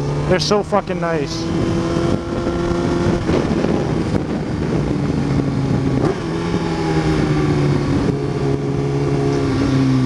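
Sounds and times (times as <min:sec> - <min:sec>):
motorcycle engine running: 0:00.0 - 0:10.0
wind rushing over helmet: 0:01.5 - 0:10.0.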